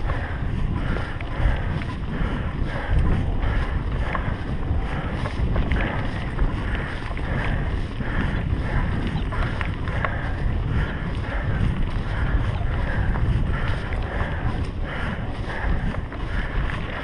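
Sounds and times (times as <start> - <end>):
bike rattles and knocks: 0.0 - 17.0
bike tyres rumbling on dirt: 0.0 - 17.0
wind buffeting microphone: 0.0 - 17.0.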